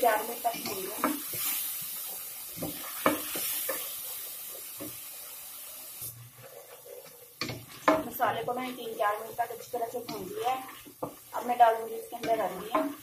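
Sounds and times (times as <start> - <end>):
food sizzling in hot oil: 0.0 - 13.0
spatula stirring and knocking pot: 0.2 - 5.0, 6.3 - 13.0.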